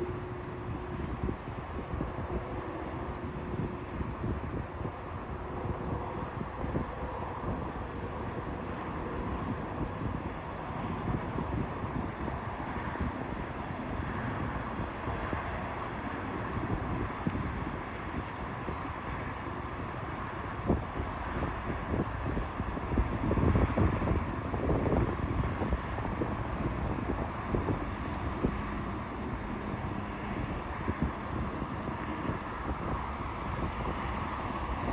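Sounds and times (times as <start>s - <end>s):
electric unicycle rolling hum: 0.0s - 34.9s
wind rushing over microphone: 0.0s - 34.9s.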